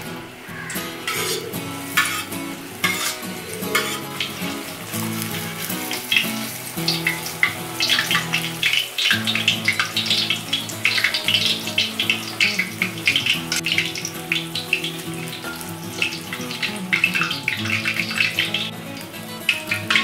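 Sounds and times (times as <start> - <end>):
background music sustained notes: 0.0 - 20.0
hot oil sizzling and crackling: 0.0 - 20.0.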